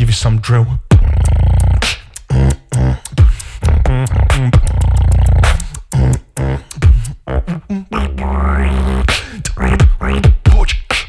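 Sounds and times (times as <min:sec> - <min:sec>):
beatboxing: 0:00.0 - 0:11.0.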